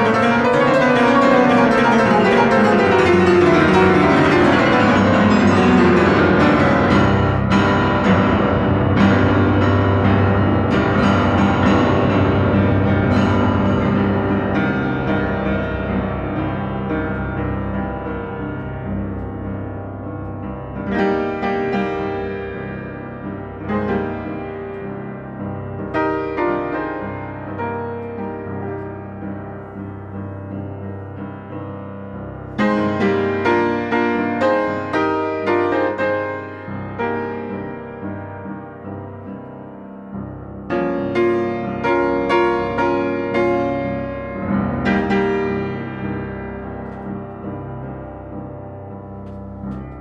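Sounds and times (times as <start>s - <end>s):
solo piano playing: 0.0s - 50.0s.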